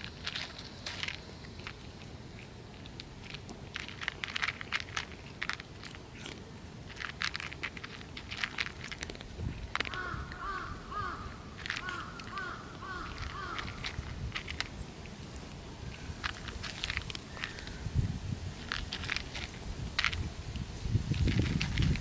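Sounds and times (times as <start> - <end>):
cat crunching dry food: 0.0 - 22.0.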